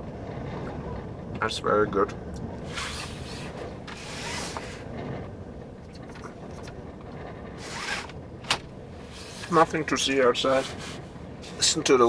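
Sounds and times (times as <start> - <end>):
wind buffeting a van: 0.0 - 12.0.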